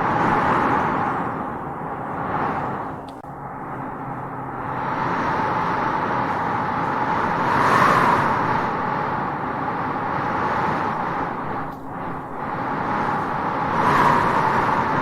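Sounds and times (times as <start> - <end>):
wind blowing through grass: 0.0 - 15.0.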